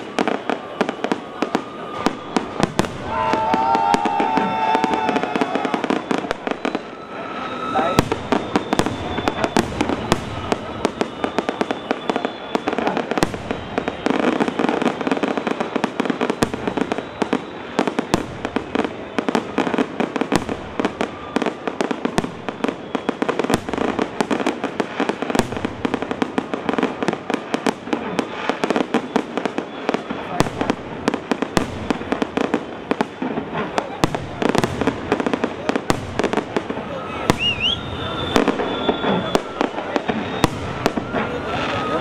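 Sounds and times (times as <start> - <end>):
fireworks bursting and crackling: 0.0 - 42.0.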